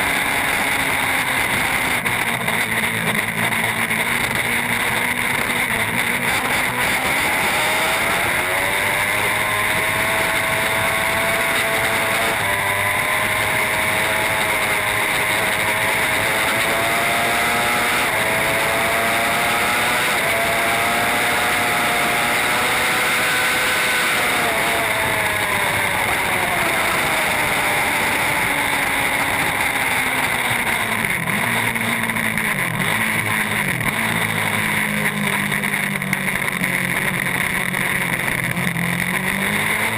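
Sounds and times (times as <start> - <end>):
motorcycle engine upshifting: 0.0 - 39.9.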